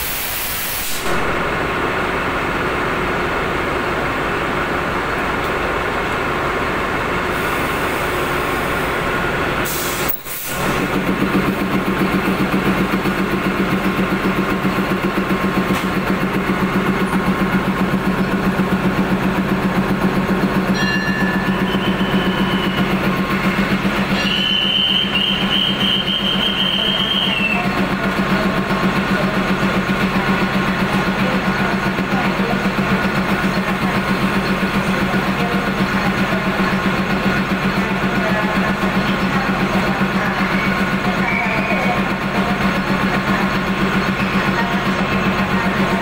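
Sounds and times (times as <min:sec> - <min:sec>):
diesel locomotive idling: 0:00.0 - 0:46.0.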